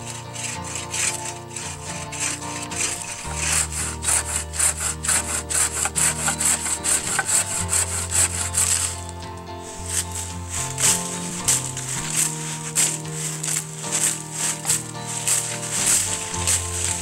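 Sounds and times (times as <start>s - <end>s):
saw rasping through branch: 0.0s - 17.0s.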